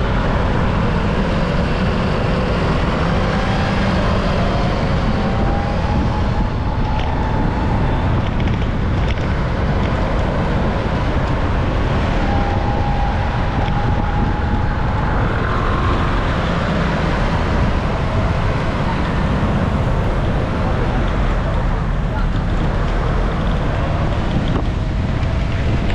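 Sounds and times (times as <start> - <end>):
passing vehicle whine: 0.0 - 25.9
traffic noise: 0.0 - 25.9
wind rumble on microphone: 0.0 - 25.9.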